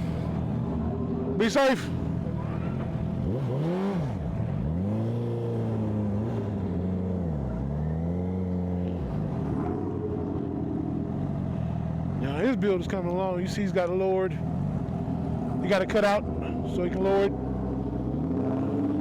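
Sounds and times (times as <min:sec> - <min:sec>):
motorcycle engine revving: 0:00.0 - 0:13.3, 0:14.4 - 0:19.0.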